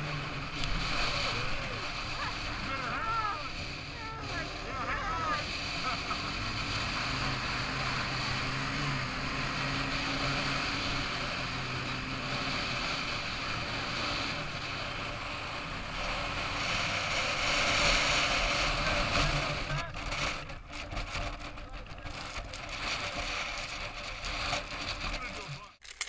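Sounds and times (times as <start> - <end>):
snowmobile engine running: 0.0 - 25.8.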